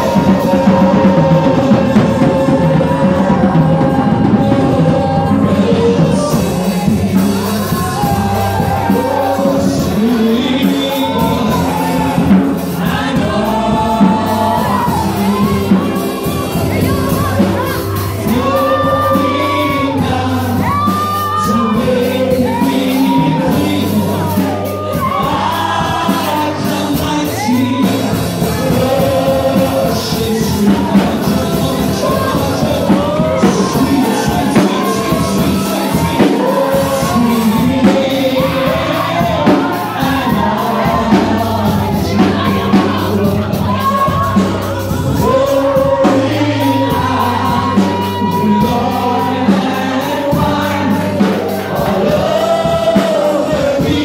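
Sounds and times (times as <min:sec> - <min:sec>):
drum kit: 0:00.0 - 0:54.0
keyboard: 0:00.0 - 0:54.0.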